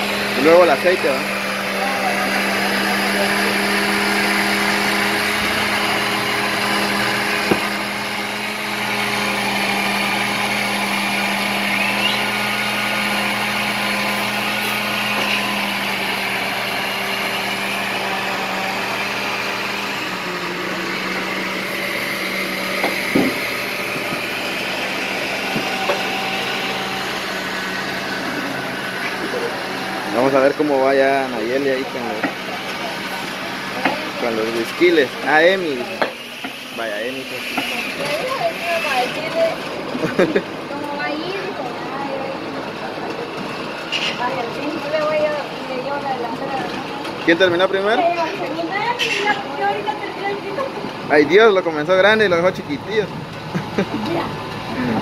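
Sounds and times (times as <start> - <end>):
machine motor drone: 0.0 - 55.0.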